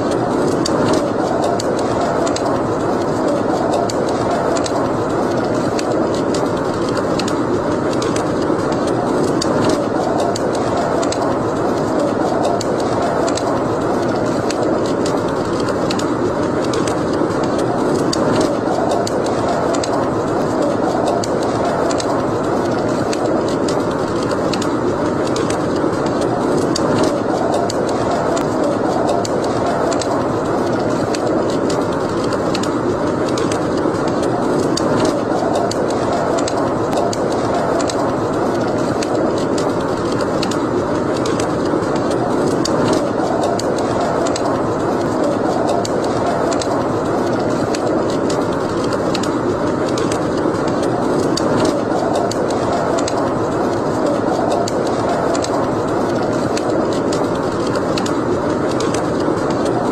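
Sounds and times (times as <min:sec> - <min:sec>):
steady rushing noise: 0:00.0 - 0:59.9
wood fire crackling: 0:00.0 - 0:59.9.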